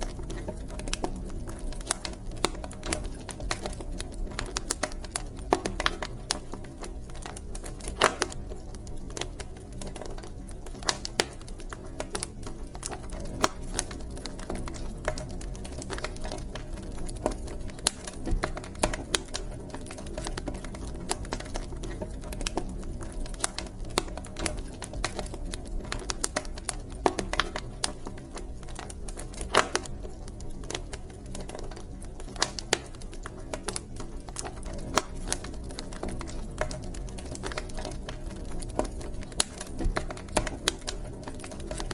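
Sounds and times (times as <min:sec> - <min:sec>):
low rumble of flames: 0:00.0 - 0:41.9
wood fire crackling and popping: 0:00.0 - 0:41.9.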